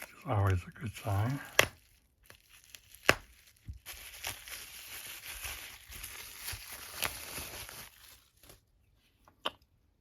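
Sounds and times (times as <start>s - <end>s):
packing material rustling: 0.0s - 8.7s.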